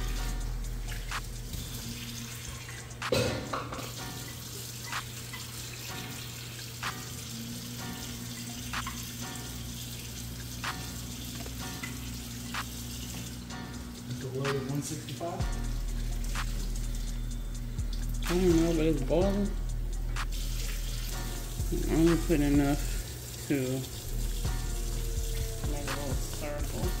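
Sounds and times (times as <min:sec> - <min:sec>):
hot oil sizzling and bubbling: 0:00.0 - 0:27.0.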